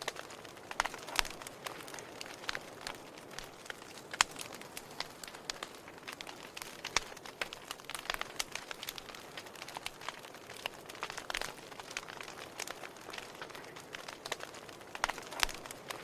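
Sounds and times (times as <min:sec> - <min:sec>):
faint steady hiss: 0:00.0 - 0:16.0
firewood crackling and popping: 0:00.0 - 0:16.0.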